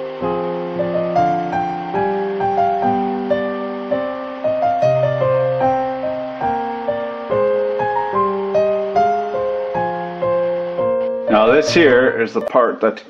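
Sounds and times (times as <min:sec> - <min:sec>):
gentle piano melody: 0:00.0 - 0:12.9.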